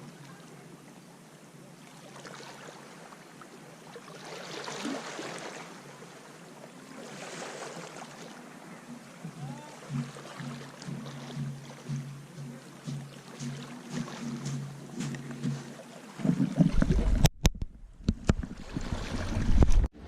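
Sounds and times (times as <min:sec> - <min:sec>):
small waves washing onto sand: 0:00.0 - 0:17.2.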